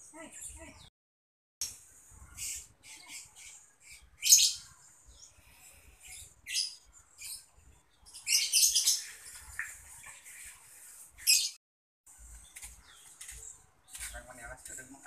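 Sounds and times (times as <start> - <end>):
small birds chirping: 0.0 - 0.9, 1.6 - 15.0.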